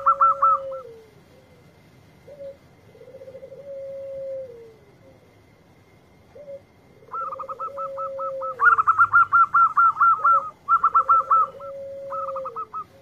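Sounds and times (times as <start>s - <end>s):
dove cooing: 0.0s - 5.6s, 6.2s - 13.0s.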